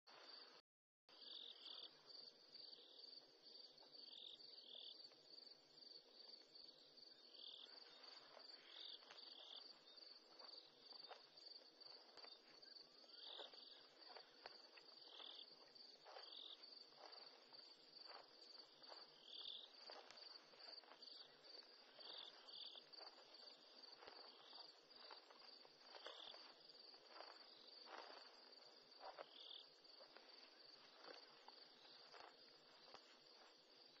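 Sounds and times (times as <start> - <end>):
insect chirp: 0.1 - 34.0
insects trilling: 1.1 - 34.0.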